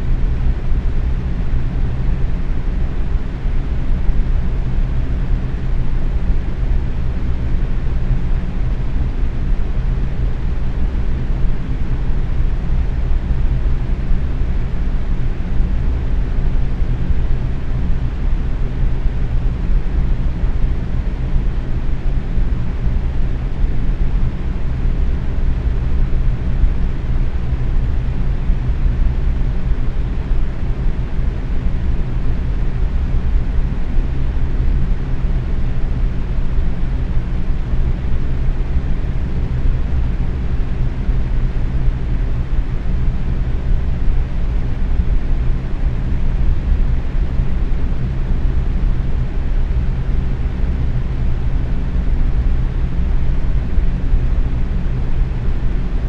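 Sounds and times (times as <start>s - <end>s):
box fan rushing air: 0.0s - 56.0s
fan motor hum: 0.0s - 56.0s.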